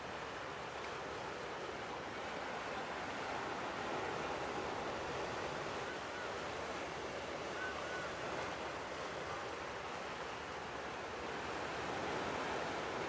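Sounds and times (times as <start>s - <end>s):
ocean surf rushing: 1.4s - 13.0s.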